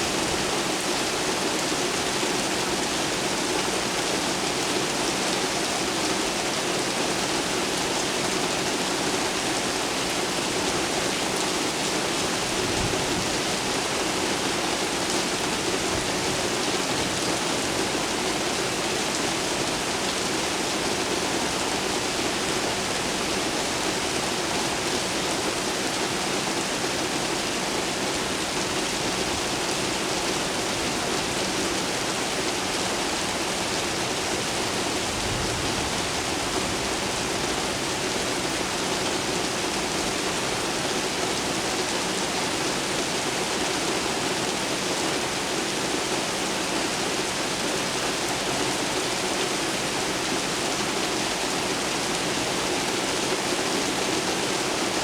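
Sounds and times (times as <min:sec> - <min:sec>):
steady rain pouring: 0:00.0 - 0:55.0.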